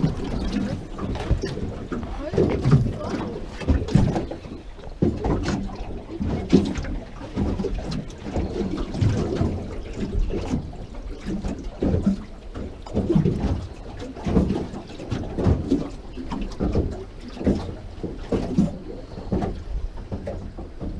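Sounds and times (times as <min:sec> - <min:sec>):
water lapping against boat hull: 0:00.0 - 0:20.9.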